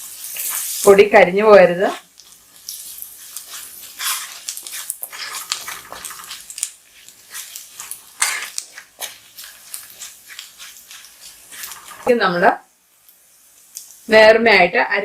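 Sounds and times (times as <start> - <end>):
spatula scraping in a pan: 0.0 - 14.0.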